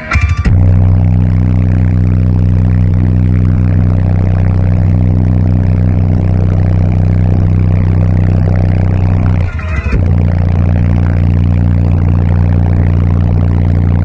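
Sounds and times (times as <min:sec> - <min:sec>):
deep subwoofer bass tone: 0:00.0 - 0:14.0.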